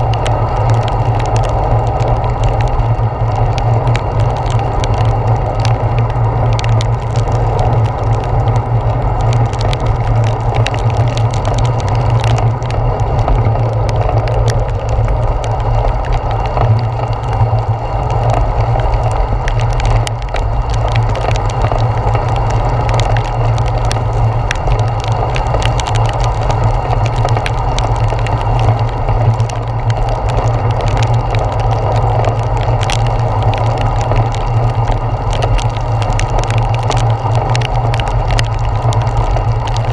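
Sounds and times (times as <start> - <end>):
bicycle tyre hiss on wet pavement: 0.0 - 39.9
low rumble: 0.0 - 39.9
raindrops ticking on camera: 0.0 - 39.9.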